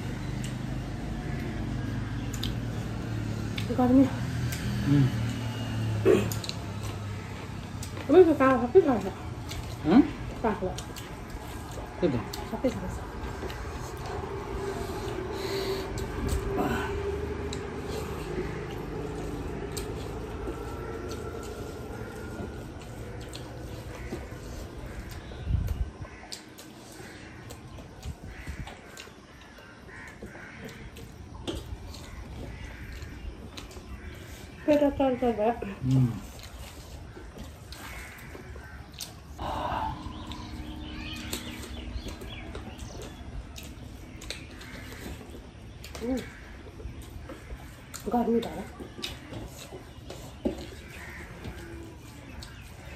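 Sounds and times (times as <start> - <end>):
chewing and mouth clicks: 0.0 - 8.1, 8.9 - 35.0, 35.8 - 52.9.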